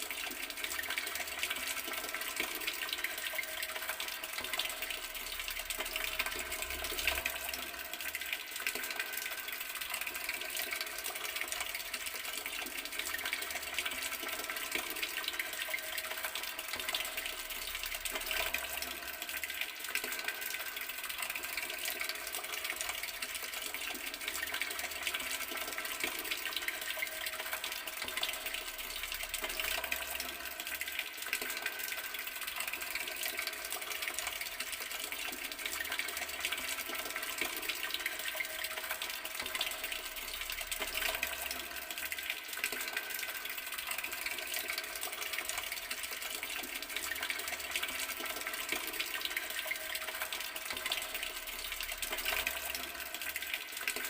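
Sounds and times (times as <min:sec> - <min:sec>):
water running from tap: 0:00.0 - 0:54.0.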